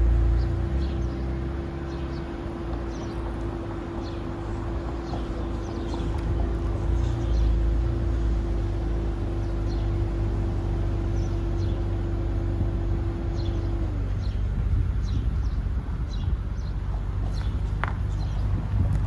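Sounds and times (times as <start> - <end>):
birds chirping: 0.0 - 18.8
car engine idling: 0.0 - 19.0.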